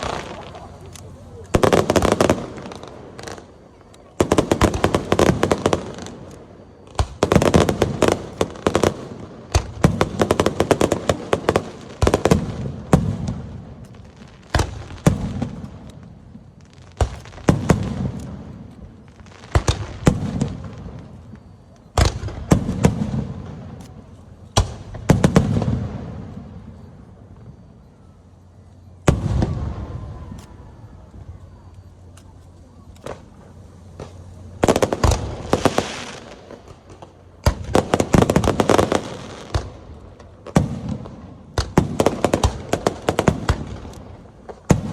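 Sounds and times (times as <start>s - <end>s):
firework bangs: 0.0s - 27.6s, 29.0s - 31.6s, 32.7s - 44.9s
firework crackles: 0.0s - 44.9s.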